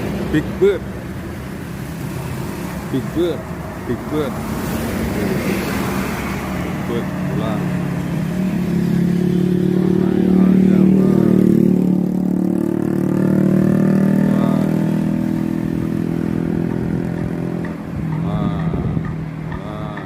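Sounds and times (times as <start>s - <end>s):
traffic engine drone: 0.0s - 20.0s
vehicles passing by: 0.0s - 20.0s.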